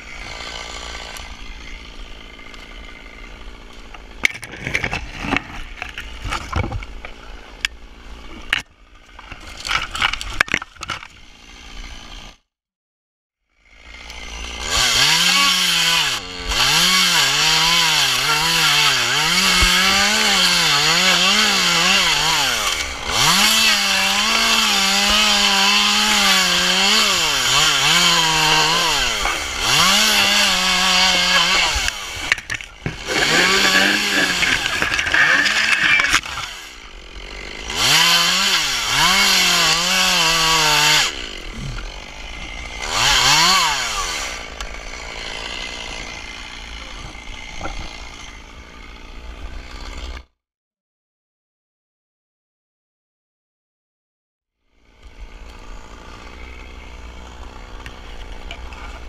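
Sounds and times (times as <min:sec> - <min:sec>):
chainsaw revving and idling: 0:00.0 - 0:06.3, 0:11.1 - 0:12.5, 0:13.5 - 0:50.4, 0:54.6 - 0:59.0.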